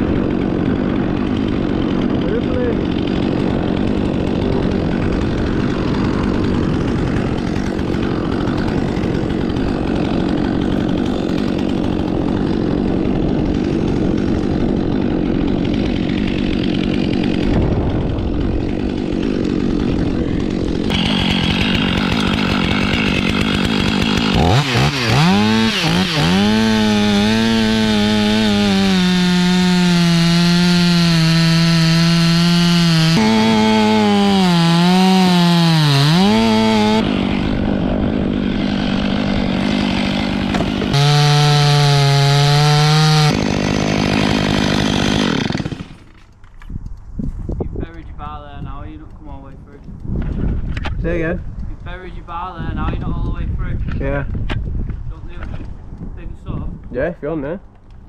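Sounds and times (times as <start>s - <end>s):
chainsaw cutting wood: 0.0s - 46.8s.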